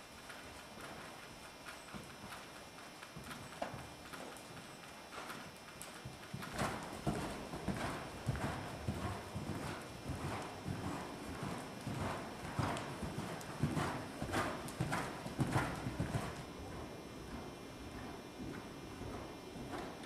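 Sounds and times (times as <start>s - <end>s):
horse hoofbeats on sand: 0.3s - 20.0s.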